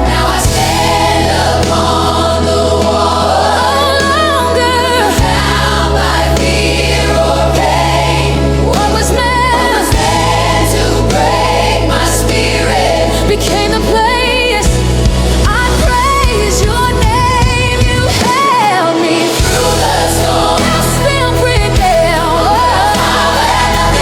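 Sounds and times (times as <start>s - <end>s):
held bass notes: 0.0s - 18.3s, 19.4s - 24.0s
choir singing gospel song: 0.0s - 24.0s.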